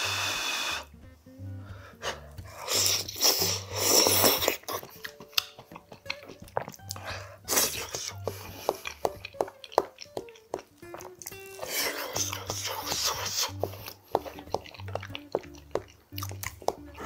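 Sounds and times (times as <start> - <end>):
person slurping greens: 0.0 - 0.9, 1.6 - 17.0
soft background music: 0.0 - 17.0
wet chewing: 1.8 - 17.0.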